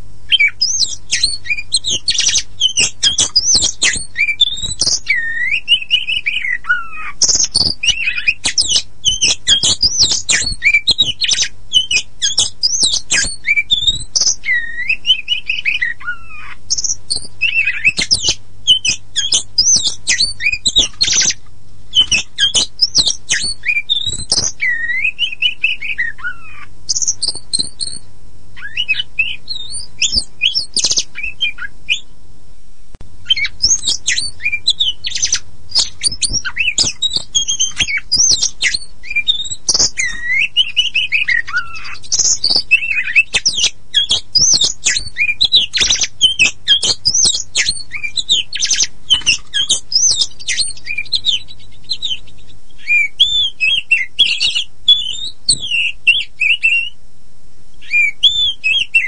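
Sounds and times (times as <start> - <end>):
faint low hum: 0.0 - 59.0
bird singing whistles and clicks: 0.3 - 32.1, 33.3 - 57.0, 57.8 - 59.0.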